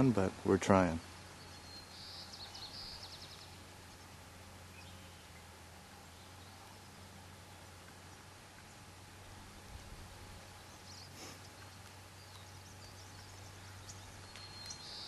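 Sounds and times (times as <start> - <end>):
steady low hum: 0.0 - 15.0
small bird chirping: 0.9 - 8.9, 10.4 - 15.0.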